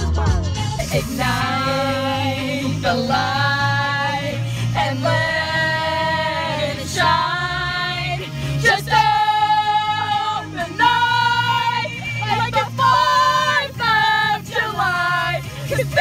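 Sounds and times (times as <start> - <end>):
pop song with female vocals: 0.0 - 16.0
young women singing along: 0.8 - 16.0.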